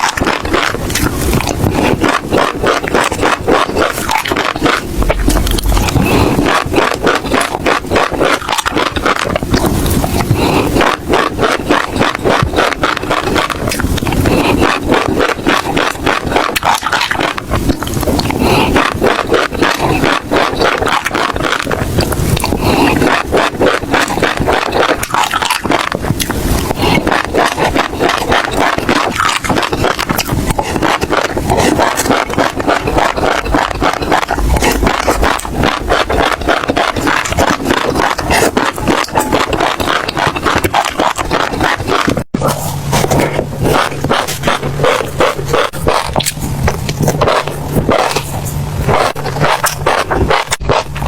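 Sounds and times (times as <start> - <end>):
chewing crunchy seeds: 0.0 - 51.0.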